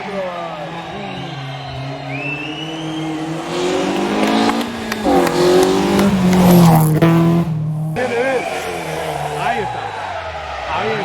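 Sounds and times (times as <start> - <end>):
rally car engine accelerating: 0.0 - 10.8.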